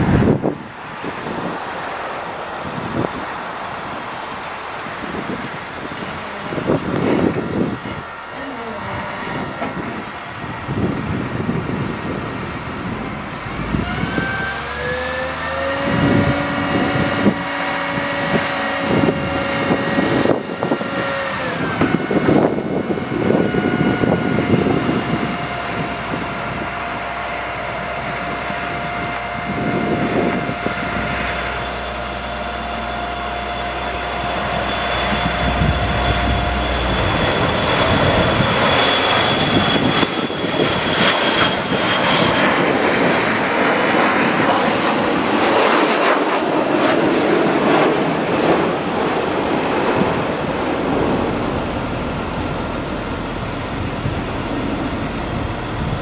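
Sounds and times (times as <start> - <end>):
airplane passing low overhead: 0.0 - 56.0
truck engine revving with hydraulic whine: 0.0 - 56.0.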